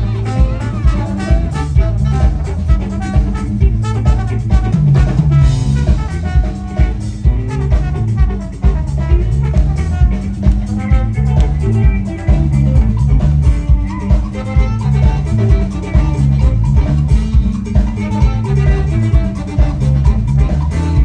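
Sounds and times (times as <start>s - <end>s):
drum kit groove: 0.0s - 21.0s
funk band playing: 0.0s - 21.0s
guitar: 0.0s - 21.0s
heavy bass line: 0.0s - 21.0s.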